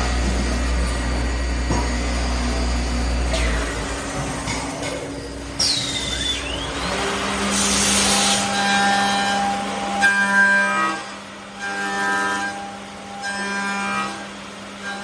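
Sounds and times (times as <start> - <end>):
lathe motor hum: 0.0 - 15.0.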